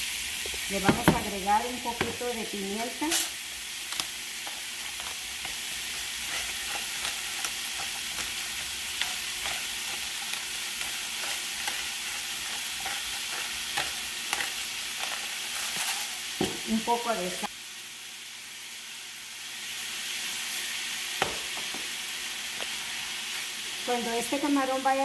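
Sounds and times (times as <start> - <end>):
shrimp sizzling in a skillet: 0.0 - 25.0.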